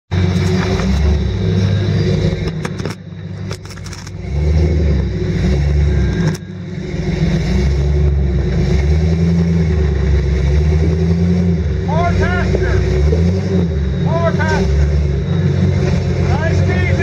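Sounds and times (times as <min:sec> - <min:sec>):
engine revving in bursts: 0:00.1 - 0:17.0.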